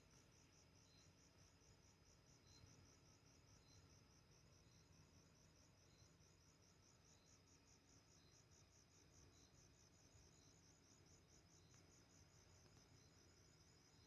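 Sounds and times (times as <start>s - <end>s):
crickets trilling: 0.1s - 14.0s.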